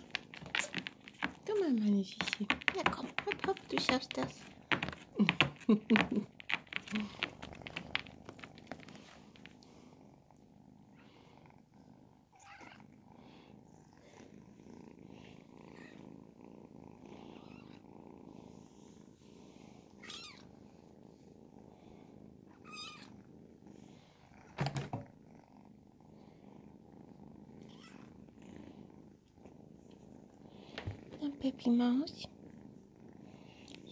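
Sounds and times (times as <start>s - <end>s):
kitten purring: 0.0s - 33.9s.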